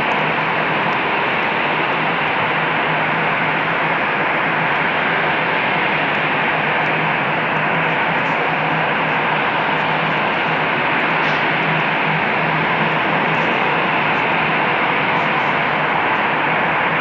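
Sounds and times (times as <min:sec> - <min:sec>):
distant jet engines roaring: 0:00.0 - 0:17.0.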